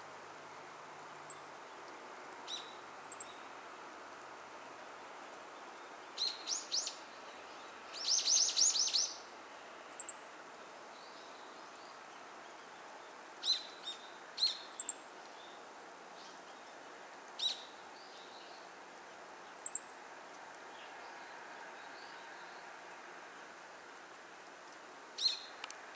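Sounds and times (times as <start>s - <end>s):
outdoor hiss: 0.0s - 25.9s.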